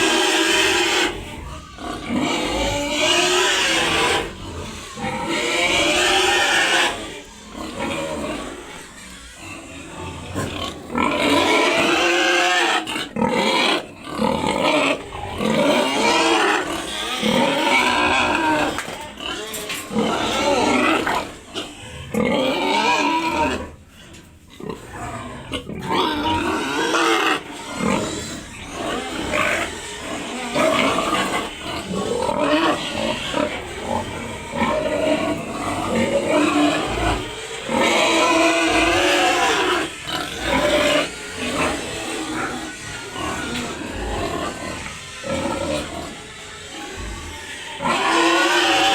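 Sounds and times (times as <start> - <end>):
pigs squealing: 0.0 - 48.9.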